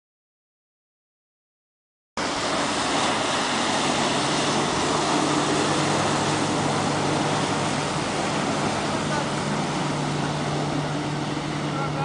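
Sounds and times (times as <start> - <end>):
outboard engines droning: 2.2 - 12.0.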